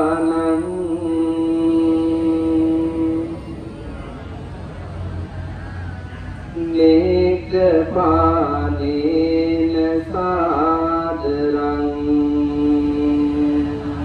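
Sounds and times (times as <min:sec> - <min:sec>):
man chanting: 0:00.0 - 0:04.2, 0:06.5 - 0:14.0.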